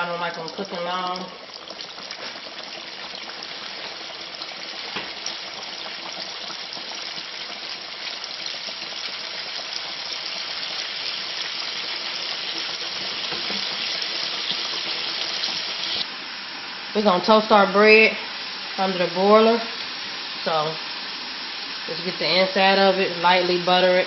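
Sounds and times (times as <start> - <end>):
chicken sizzling in frying: 0.0 - 24.0.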